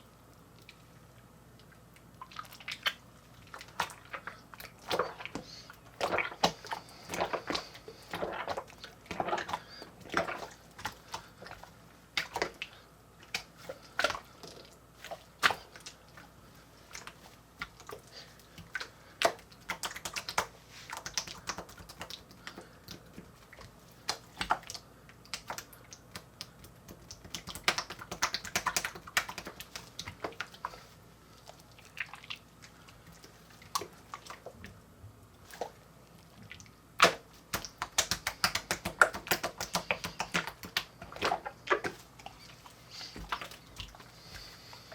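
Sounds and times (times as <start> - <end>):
room fan hum: 0.0 - 44.9
slime squelching and popping: 2.0 - 16.3, 16.9 - 34.7, 35.4 - 44.6.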